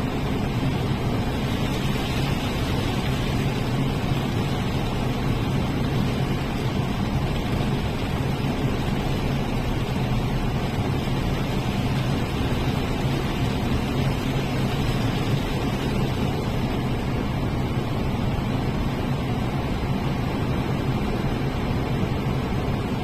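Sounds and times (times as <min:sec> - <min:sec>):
engine drone: 0:00.0 - 0:23.0
rushing noise: 0:00.0 - 0:23.0.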